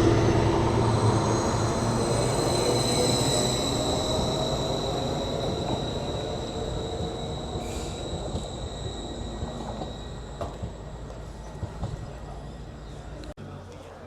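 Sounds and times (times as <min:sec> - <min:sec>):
high-pitched whine: 0:00.0 - 0:13.3
train rumbling on track: 0:00.0 - 0:13.4.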